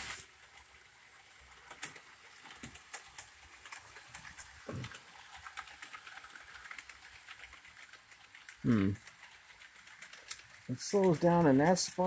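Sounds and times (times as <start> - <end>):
model train rolling on track: 0.0 - 12.0
wheels clicking over rail joints: 0.0 - 12.0.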